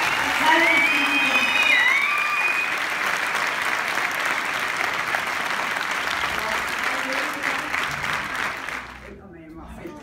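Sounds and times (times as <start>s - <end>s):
large audience applauding: 0.0s - 9.2s.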